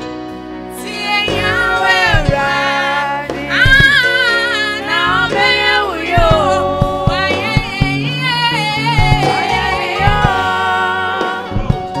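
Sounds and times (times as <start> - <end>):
low musical accompaniment: 0.0 - 12.0
person singing gospel: 0.7 - 12.0.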